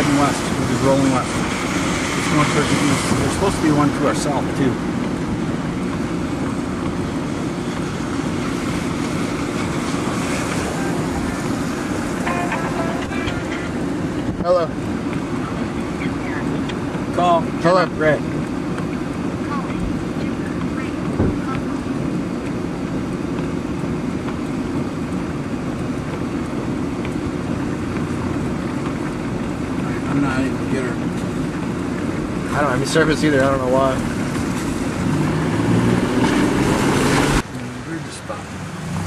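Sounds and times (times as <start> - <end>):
car interior rumble: 0.0 - 39.0.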